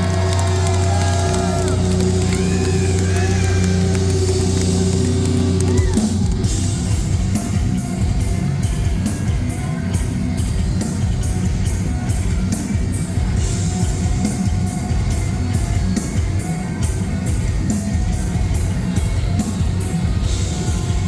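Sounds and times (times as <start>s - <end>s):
bass: 0.0s - 21.0s
distorted guitars: 0.0s - 21.0s
drums: 0.0s - 21.0s.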